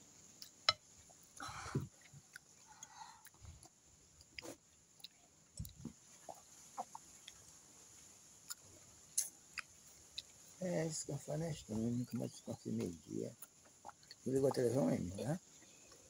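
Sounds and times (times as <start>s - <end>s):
chewing: 0.3s - 10.6s, 11.9s - 16.0s.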